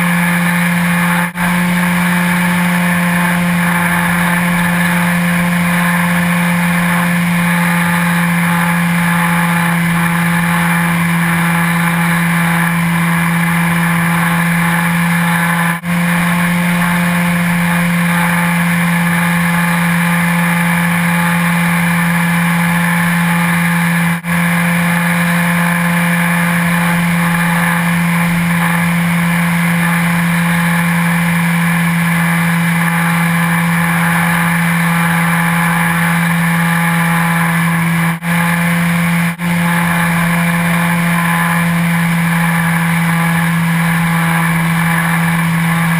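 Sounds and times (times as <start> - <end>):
high propeller whine: 0.0 - 45.9
model airplane motor drone: 0.0 - 45.9.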